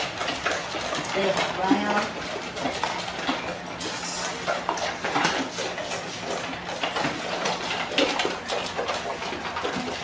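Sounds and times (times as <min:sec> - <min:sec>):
dogs eating from metal bowls: 0:00.0 - 0:10.0.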